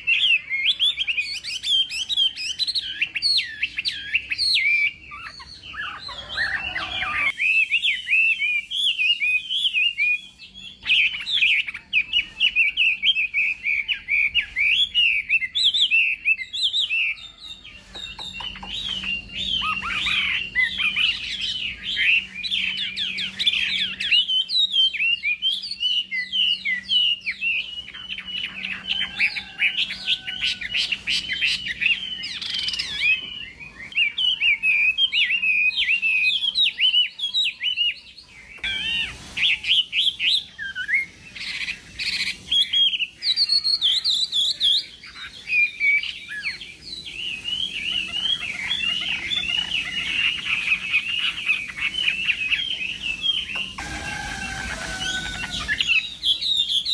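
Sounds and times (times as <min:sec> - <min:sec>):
bird singing whistled phrases: 0:00.0 - 0:56.9.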